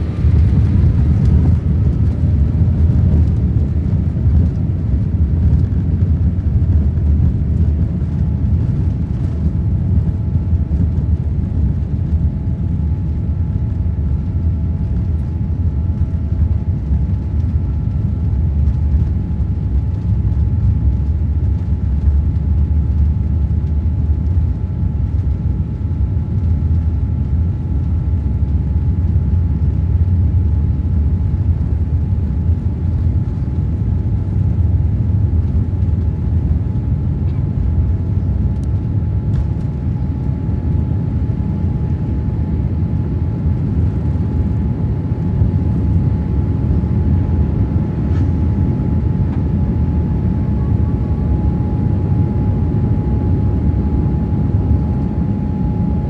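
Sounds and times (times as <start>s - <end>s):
faint steady whine: 0.0s - 56.0s
jet airliner rumble from cabin: 0.0s - 56.0s.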